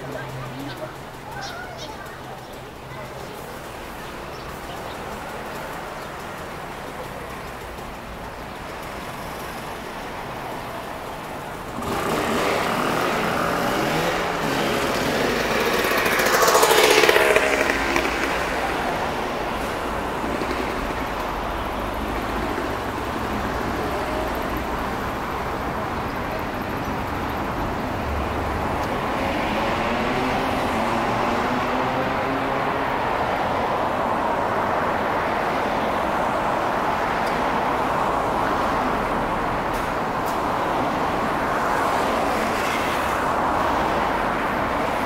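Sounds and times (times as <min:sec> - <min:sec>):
cars driving past: 0:00.0 - 0:45.0.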